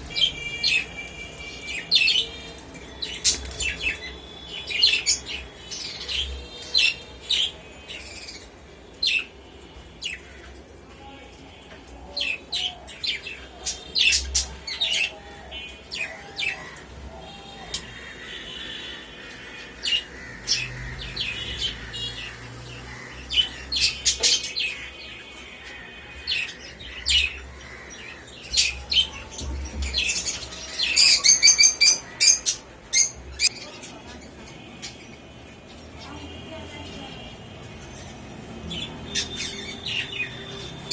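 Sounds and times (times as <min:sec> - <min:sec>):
birds chirping and squawking: 0:00.0 - 0:40.9.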